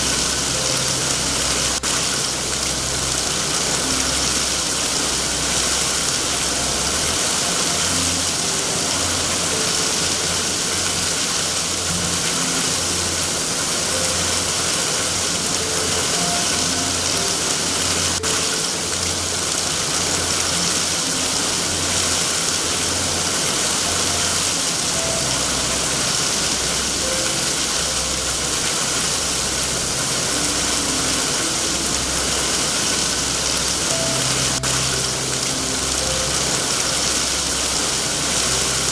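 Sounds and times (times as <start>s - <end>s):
rain hiss: 0.0s - 38.9s
soft low notes: 0.0s - 38.9s.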